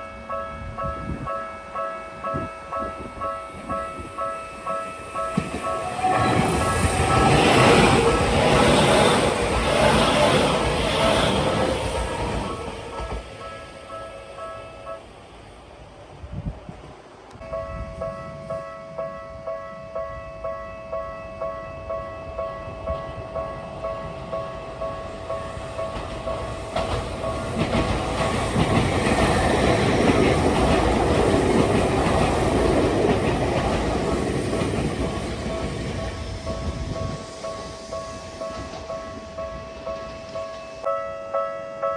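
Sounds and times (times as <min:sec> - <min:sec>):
level-crossing electronic warning bell: 0:00.0 - 0:10.6, 0:11.5 - 0:15.1, 0:17.4 - 0:31.7, 0:32.6 - 0:41.9
electric train running past: 0:00.0 - 0:41.9.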